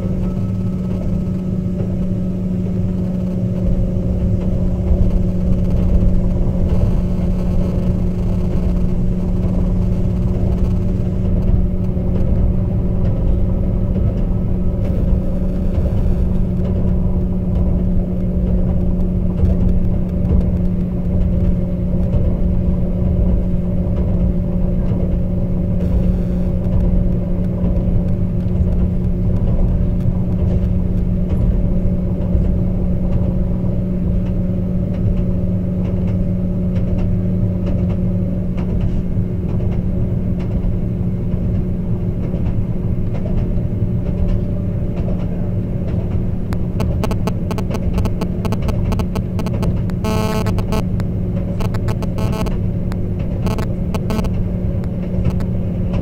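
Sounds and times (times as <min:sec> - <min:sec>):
train diesel engine hum: 0:00.0 - 0:56.0
wheels rumbling on track: 0:00.0 - 0:56.0.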